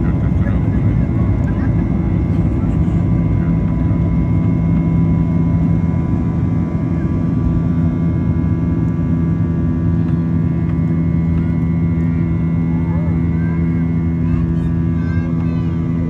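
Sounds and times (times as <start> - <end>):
jet engines in aircraft cabin: 0.0 - 16.0.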